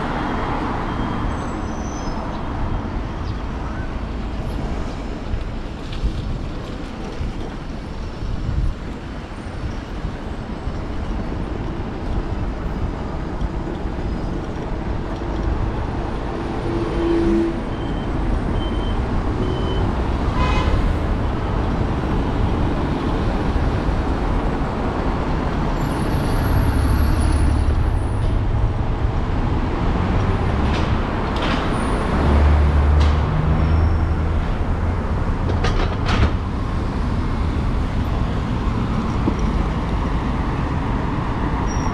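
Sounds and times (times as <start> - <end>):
city traffic engine and tyre noise: 0.0 - 41.9.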